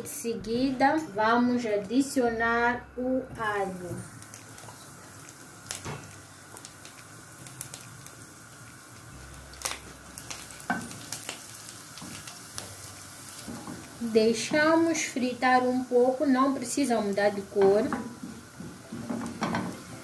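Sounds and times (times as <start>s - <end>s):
garlic sizzling in oil: 3.4s - 20.0s.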